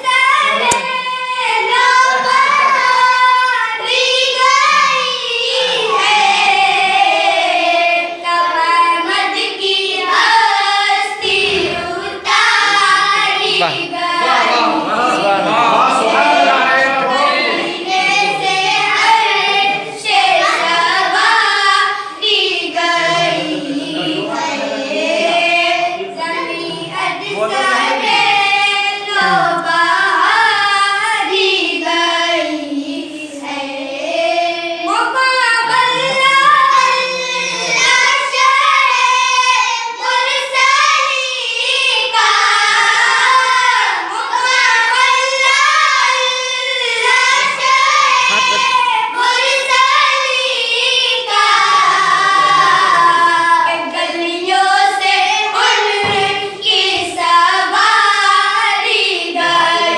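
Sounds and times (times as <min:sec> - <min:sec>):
children singing devotional song: 0:00.0 - 0:59.9.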